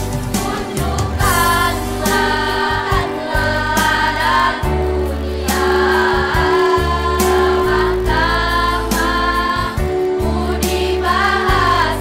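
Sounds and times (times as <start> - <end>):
women's choir singing chords: 0.0 - 12.0.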